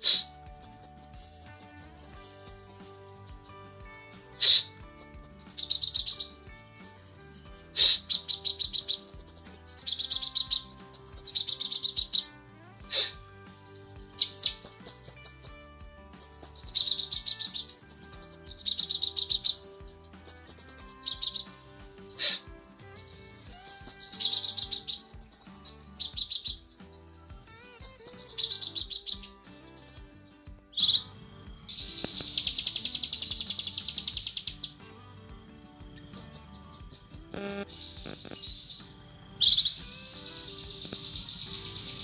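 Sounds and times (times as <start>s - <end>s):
bird singing fast high notes: 0.0s - 42.0s.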